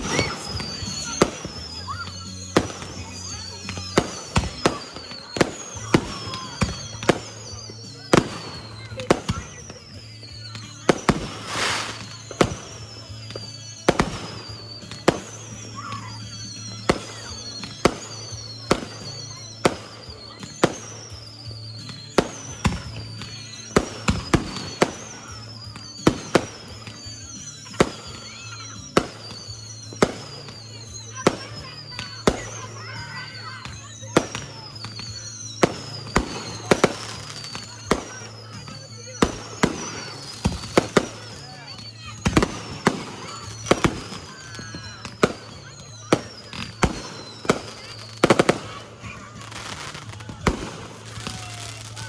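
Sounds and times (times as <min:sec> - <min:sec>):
high falling whistles: 0:00.0 - 0:51.8
firework hiss: 0:00.0 - 0:51.9
fireworks bangs: 0:00.0 - 0:52.0.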